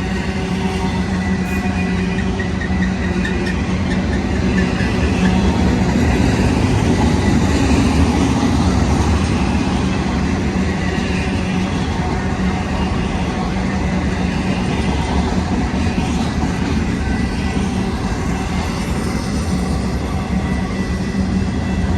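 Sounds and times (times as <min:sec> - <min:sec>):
locomotive engine drone: 0:00.0 - 0:21.9
rumble of rolling train cars: 0:00.0 - 0:21.9.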